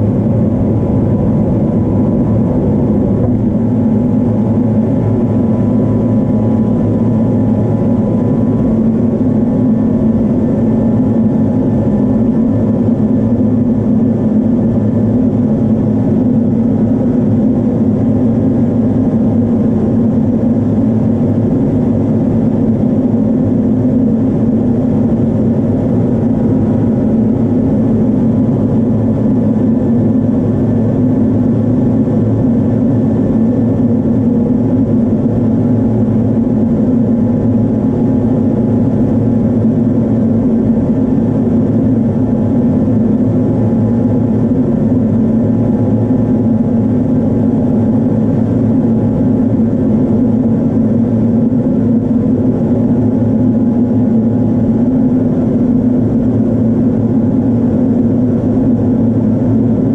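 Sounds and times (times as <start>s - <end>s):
faint steady whine: 0.0s - 59.9s
jet engine drone in cockpit: 0.0s - 59.9s.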